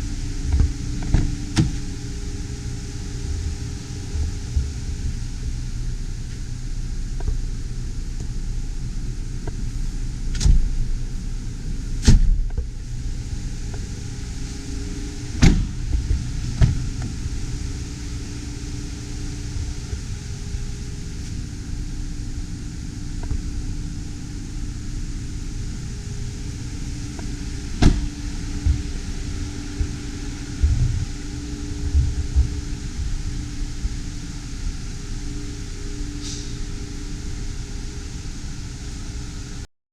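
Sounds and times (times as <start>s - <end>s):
car engine idling: 0.0s - 39.6s.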